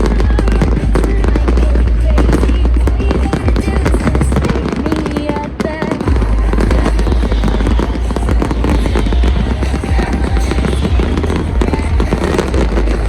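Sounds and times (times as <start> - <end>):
fireworks crackling and banging: 0.0 - 13.0
loud music with heavy bass: 0.0 - 13.0.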